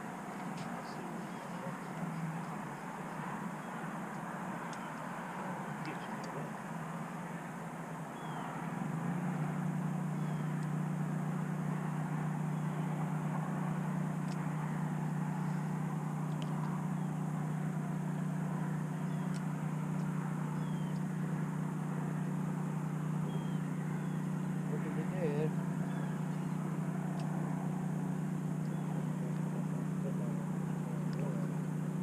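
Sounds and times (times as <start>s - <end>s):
electric trolling motor humming: 0.0s - 32.0s.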